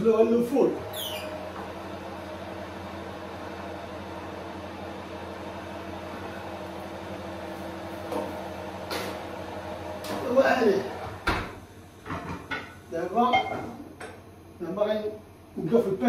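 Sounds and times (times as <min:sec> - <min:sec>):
kitchen fan humming: 0:00.0 - 0:16.0.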